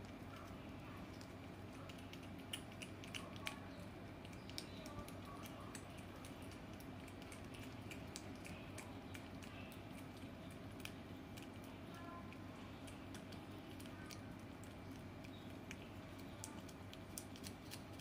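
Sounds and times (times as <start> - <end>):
cat licking with wet clicks: 0.0 - 18.0.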